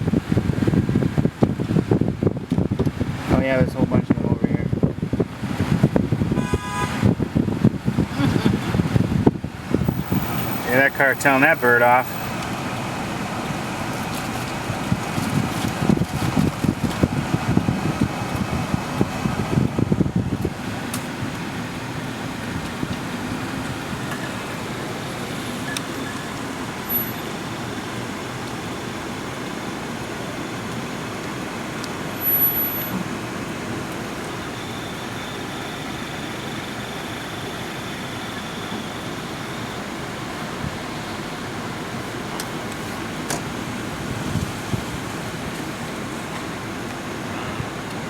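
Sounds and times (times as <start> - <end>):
car running heard from cabin: 0.0 - 48.0.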